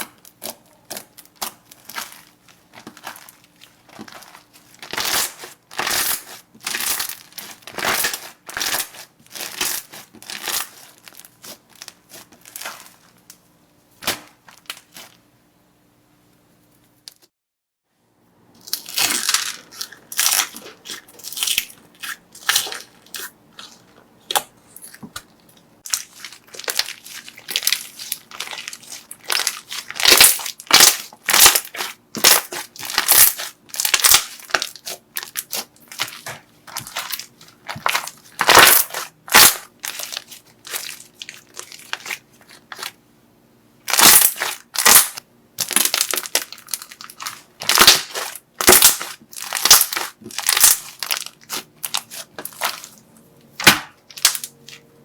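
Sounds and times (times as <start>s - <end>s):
slime crunching and crackling: 0.0s - 13.4s, 14.0s - 15.2s, 18.6s - 43.0s, 43.8s - 54.9s.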